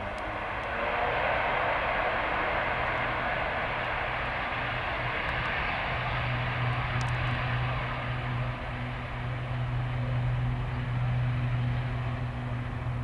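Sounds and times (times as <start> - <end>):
airliner engines at takeoff power: 0.0 - 13.0.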